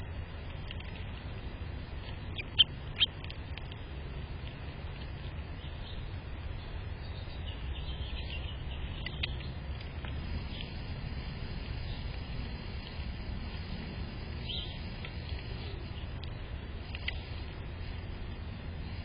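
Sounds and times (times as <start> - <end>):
steady low rumble: 0.0 - 19.0
small birds chirping: 0.5 - 19.0.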